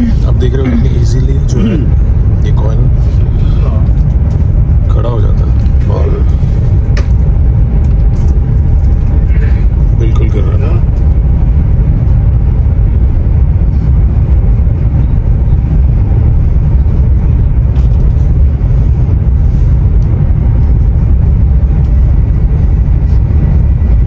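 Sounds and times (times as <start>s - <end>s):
train cabin low rumble: 0.0s - 24.0s.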